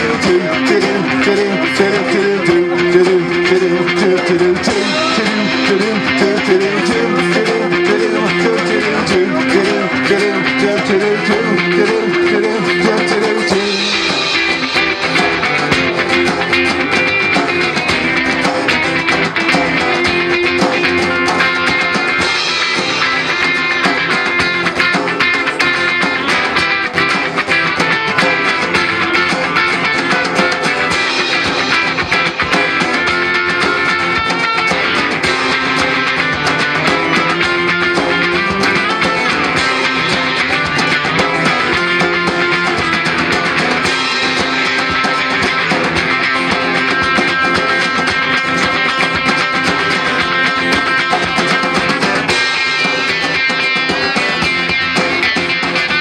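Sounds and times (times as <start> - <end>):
drums: 0.0 - 56.0
electric guitar: 0.0 - 56.0
strummed acoustic guitar: 0.0 - 56.0.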